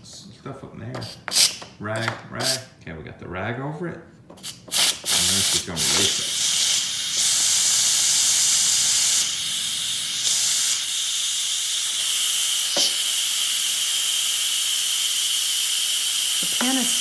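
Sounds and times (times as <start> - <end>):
pressure cooker venting steam hiss: 1.0 - 2.6, 4.3 - 17.0.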